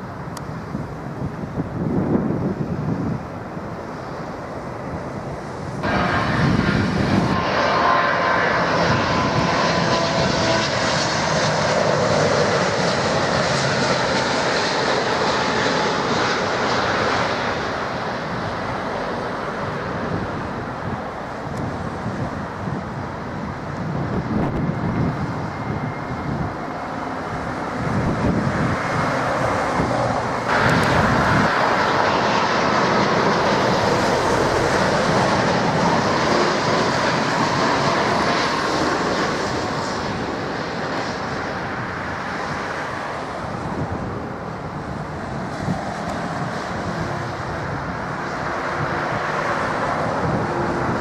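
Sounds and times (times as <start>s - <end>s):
jet engine passing overhead: 0.0s - 51.0s.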